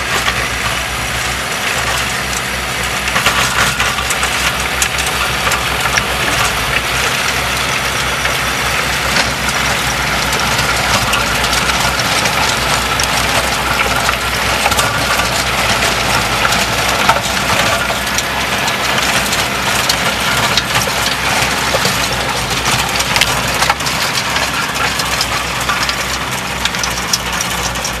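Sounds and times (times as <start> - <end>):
diesel tractor engine hum: 0.0 - 28.0
tiller crunching soil and stones: 0.0 - 28.0.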